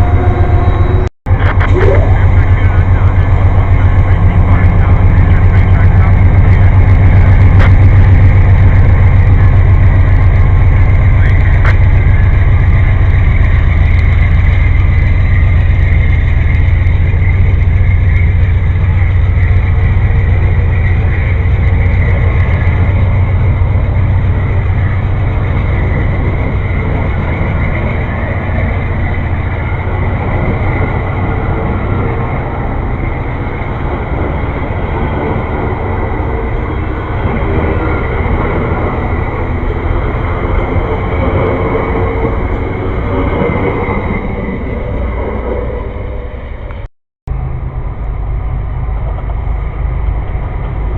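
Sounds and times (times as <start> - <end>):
diesel locomotive drone: 0.0 - 50.9
train cars rumbling on rails: 0.0 - 50.9.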